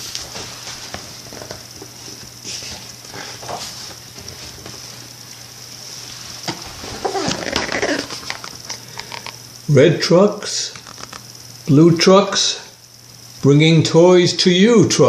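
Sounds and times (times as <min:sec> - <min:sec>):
steady hiss and hum: 0:00.0 - 0:15.0.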